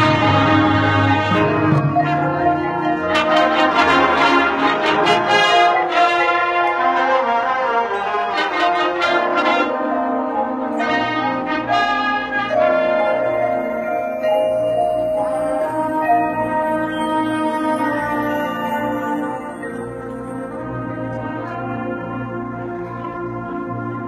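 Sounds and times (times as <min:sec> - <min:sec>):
marching band brass chords: 0:00.0 - 0:24.0.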